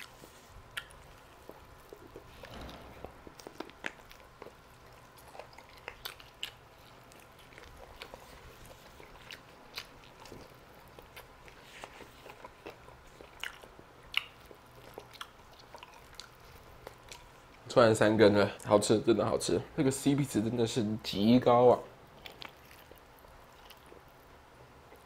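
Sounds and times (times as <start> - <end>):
person chewing chicken: 0.0 - 17.6, 22.1 - 25.0.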